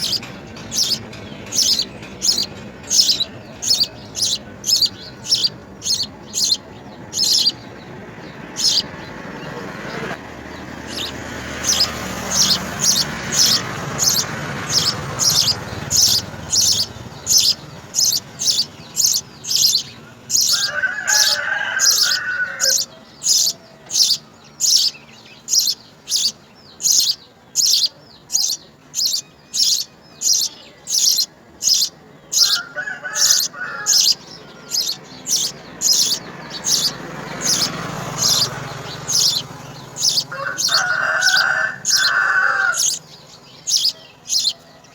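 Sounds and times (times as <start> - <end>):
sparrows chirping: 0.0 - 44.9.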